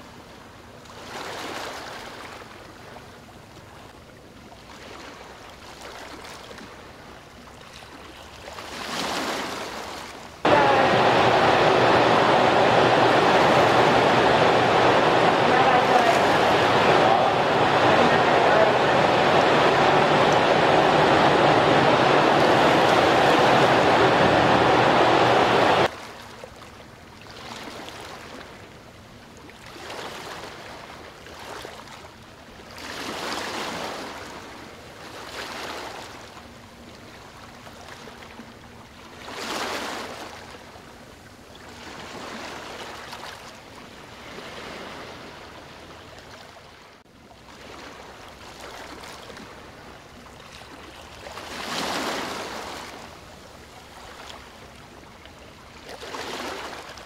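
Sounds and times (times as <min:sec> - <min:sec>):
rushing water like surf: 0:00.0 - 0:57.0.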